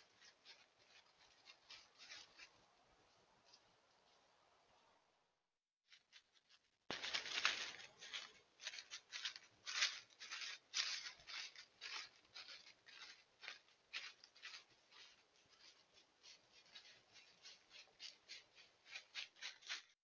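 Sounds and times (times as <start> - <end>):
footsteps crunching dry leaves: 0.0 - 3.6, 5.9 - 20.0.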